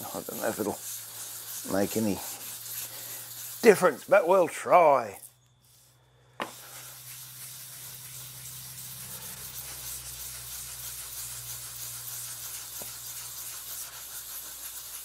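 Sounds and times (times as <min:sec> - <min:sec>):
stone scraping on abrasive paper: 0:00.0 - 0:15.0.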